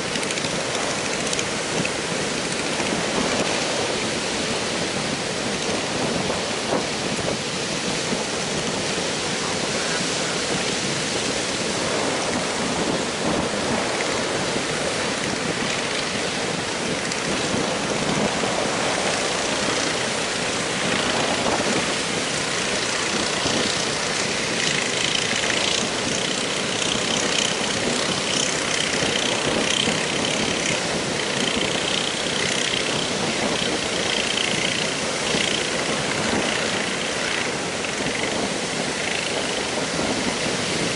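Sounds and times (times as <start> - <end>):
boat engines running: 0.0 - 40.9
heavy surf breaking: 0.0 - 40.9
strong wind: 0.0 - 40.9
wavering boat engine whine: 0.0 - 40.9.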